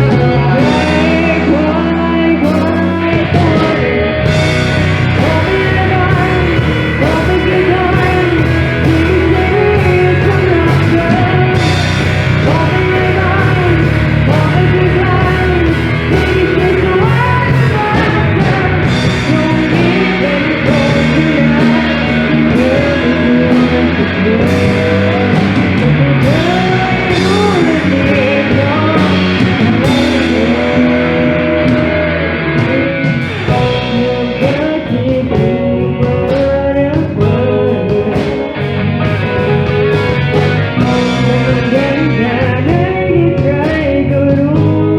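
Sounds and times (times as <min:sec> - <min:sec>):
band accompaniment: 0:00.0 - 0:44.9
person singing: 0:00.0 - 0:44.9.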